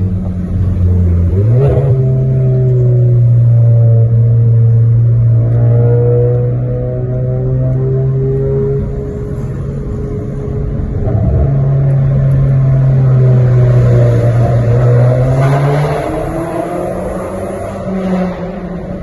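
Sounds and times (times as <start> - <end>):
car engine droning and revving: 0.0 - 19.0.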